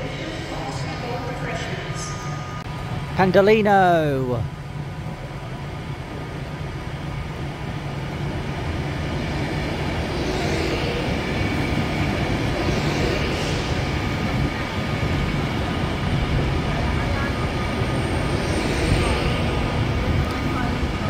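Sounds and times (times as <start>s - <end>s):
train coaches rumbling past: 0.0s - 3.2s, 4.5s - 21.0s.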